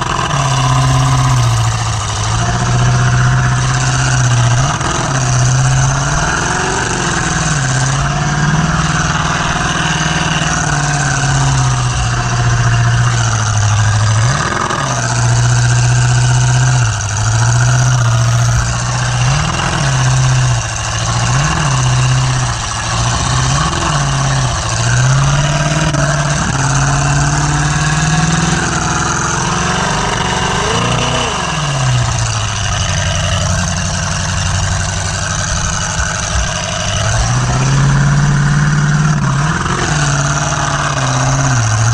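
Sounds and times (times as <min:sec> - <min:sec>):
car engine revving hard: 0:00.0 - 0:41.9.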